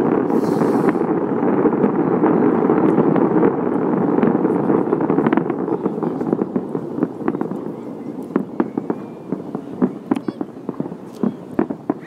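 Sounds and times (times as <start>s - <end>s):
fireworks bangs and crackling pops: 0.0s - 12.0s.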